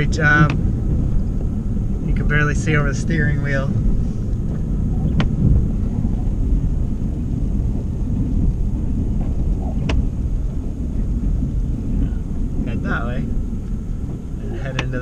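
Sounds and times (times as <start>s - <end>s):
pickup truck rumble from inside: 0.0s - 15.0s.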